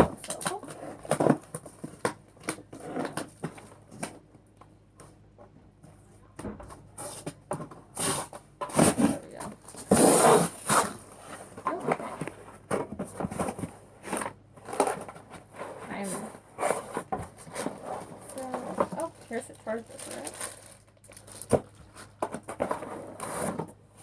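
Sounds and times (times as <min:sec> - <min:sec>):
packaging rustling and scraping: 0:00.0 - 0:04.2, 0:06.7 - 0:24.0.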